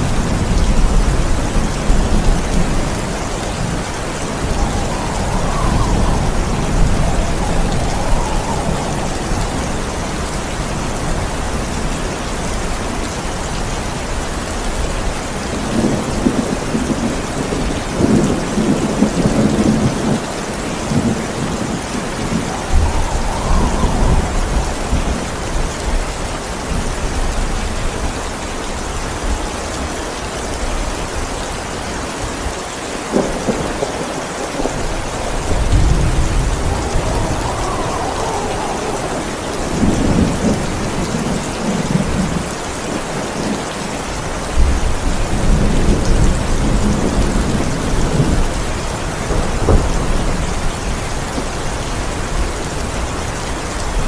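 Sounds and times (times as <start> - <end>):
thunder rumbling: 0.0 - 28.2, 33.1 - 54.0
heavy rain: 0.0 - 54.0.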